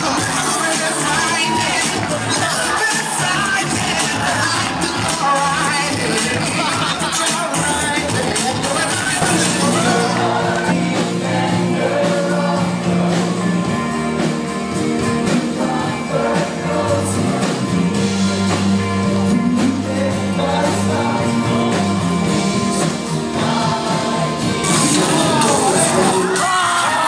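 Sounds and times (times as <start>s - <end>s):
band with drums playing: 0.0s - 27.0s
voices singing: 0.0s - 27.0s.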